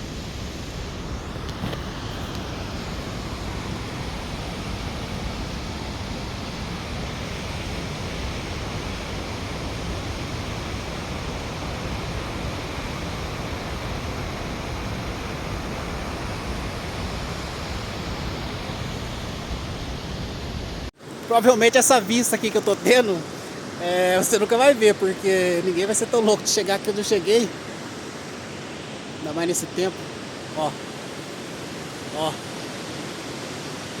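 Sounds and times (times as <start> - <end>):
waterfall roaring: 0.3 - 34.0.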